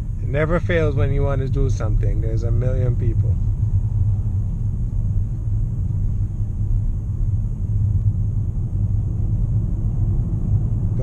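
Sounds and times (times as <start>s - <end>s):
car cabin engine and tyre rumble: 0.0s - 11.0s.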